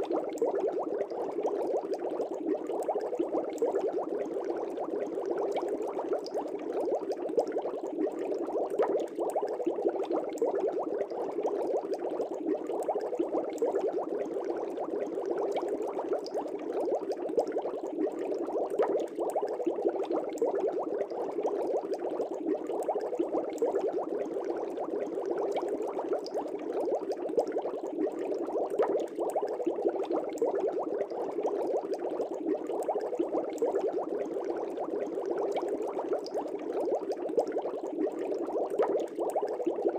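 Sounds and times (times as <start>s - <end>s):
fish tank air bubbles: 0.0s - 39.9s.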